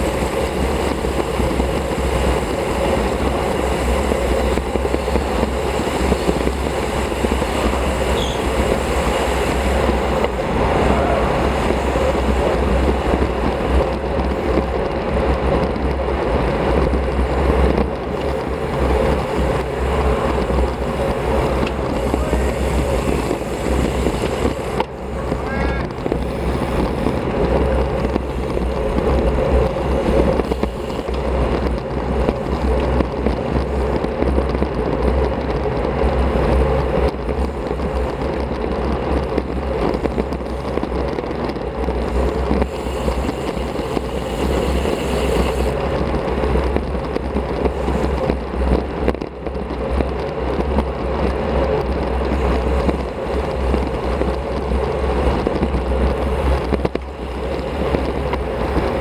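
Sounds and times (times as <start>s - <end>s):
bike tyres rolling on pavement: 0.0s - 59.0s
wind buffeting microphone: 0.0s - 59.0s.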